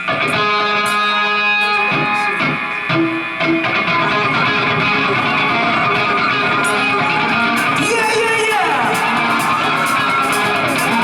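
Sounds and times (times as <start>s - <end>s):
electric guitar: 0.0s - 11.0s
live rock band playing: 0.0s - 11.0s.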